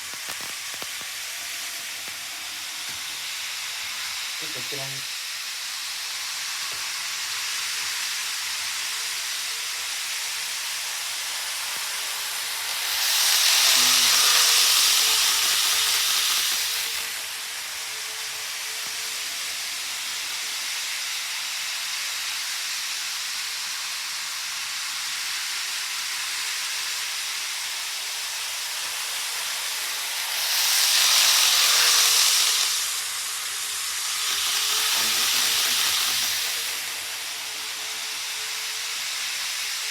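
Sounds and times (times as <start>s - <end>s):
model trains rolling on track: 0.0s - 39.9s.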